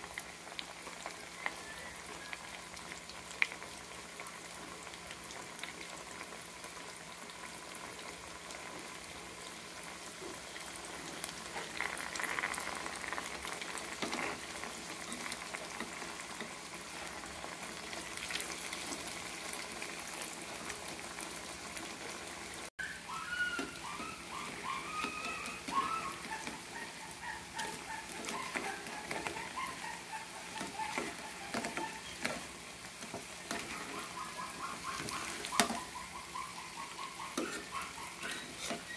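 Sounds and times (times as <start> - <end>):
liquid bubbling in a pot: 0.0 - 38.9.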